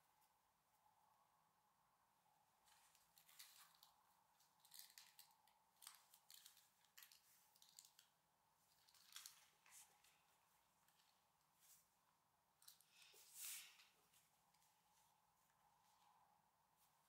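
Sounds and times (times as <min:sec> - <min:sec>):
fabric and straps rustling: 0:02.6 - 0:17.0.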